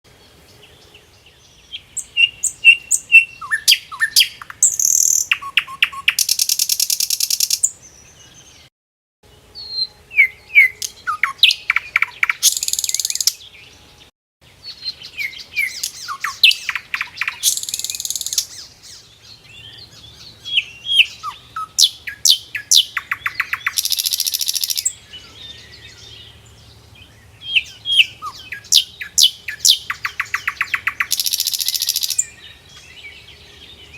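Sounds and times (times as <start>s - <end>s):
songbird singing: 0.1s - 8.7s, 9.3s - 33.9s.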